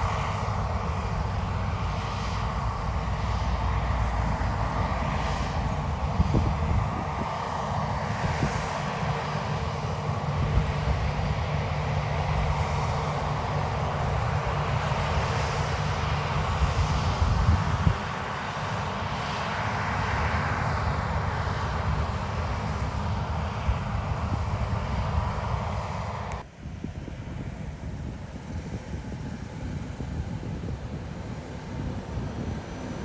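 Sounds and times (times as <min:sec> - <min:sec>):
diesel farm machinery droning: 0:00.0 - 0:26.4.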